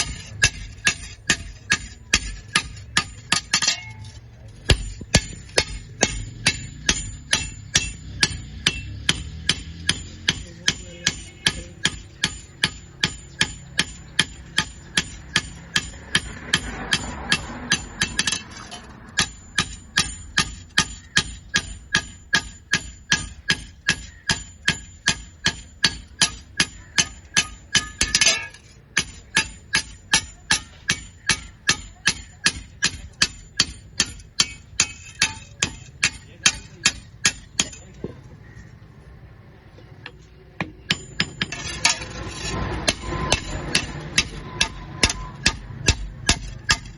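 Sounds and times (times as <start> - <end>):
hammer striking iron: 0.0 - 38.8, 39.8 - 46.9.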